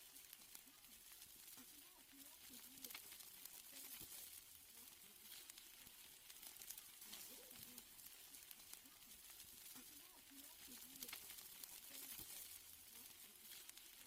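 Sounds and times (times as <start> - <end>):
steaks sizzling over fire: 0.0 - 14.0.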